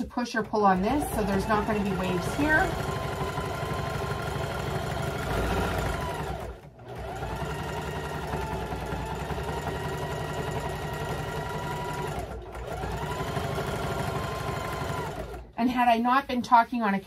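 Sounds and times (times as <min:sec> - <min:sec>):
electric sewing machine running: 0:00.0 - 0:15.6.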